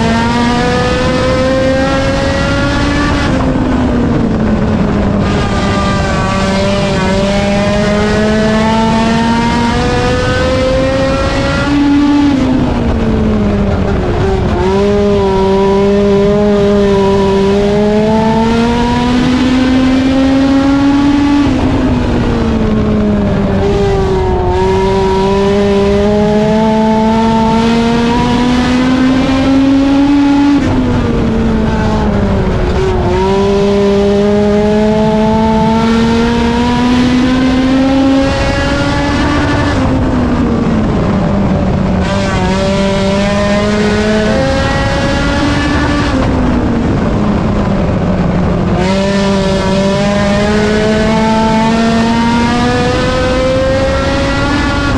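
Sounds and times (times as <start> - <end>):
race car engine at full throttle: 0.0 - 54.9.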